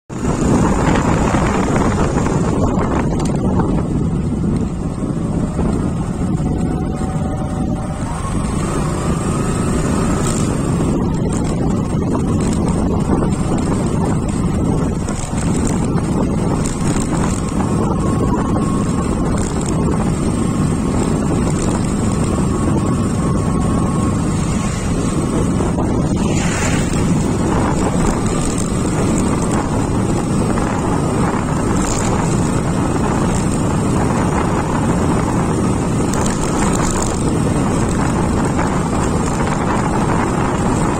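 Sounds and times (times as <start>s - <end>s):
wind noise on microphone: 0.0s - 40.9s
motorcycle engine running: 0.1s - 40.9s.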